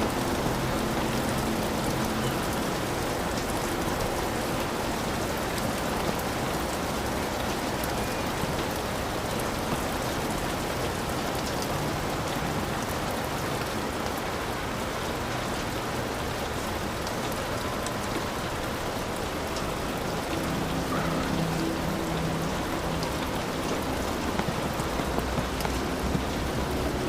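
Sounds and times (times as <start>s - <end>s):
heavy rain on a roof: 0.0s - 27.0s.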